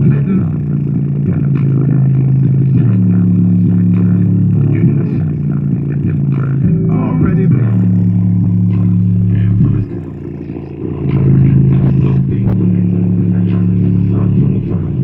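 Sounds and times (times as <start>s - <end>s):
subwoofer deep bass notes: 0.0s - 15.0s.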